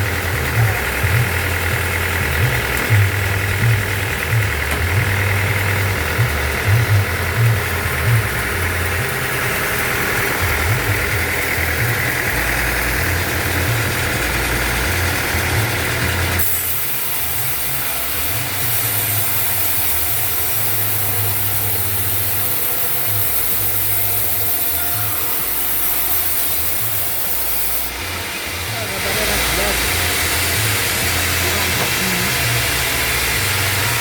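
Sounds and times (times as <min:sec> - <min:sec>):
sawmill machinery droning: 0:00.0 - 0:34.0.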